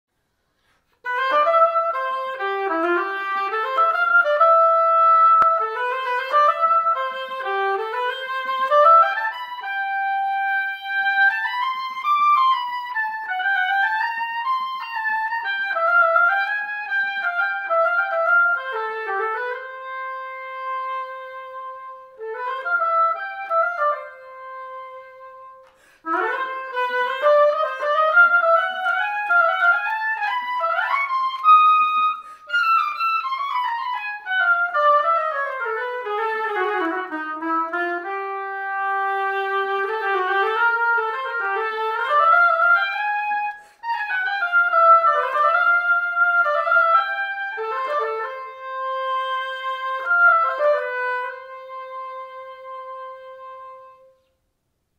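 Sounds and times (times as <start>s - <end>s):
solo oboe melody: 0.6s - 54.4s.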